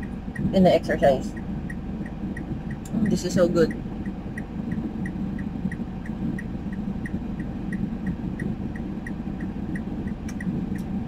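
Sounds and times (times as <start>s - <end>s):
car indicator ticking: 0.0s - 11.0s
low cabin hum: 0.0s - 11.0s.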